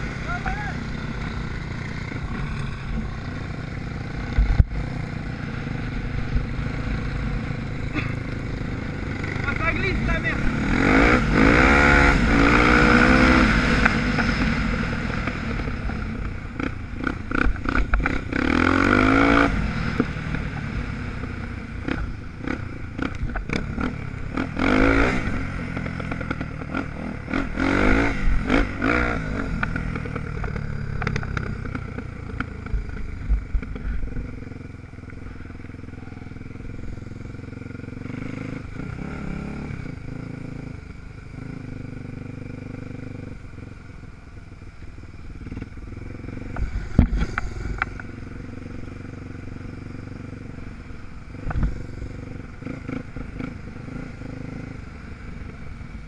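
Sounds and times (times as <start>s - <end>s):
dirt bike engine revving: 0.0s - 34.7s, 36.0s - 40.8s, 45.4s - 55.6s.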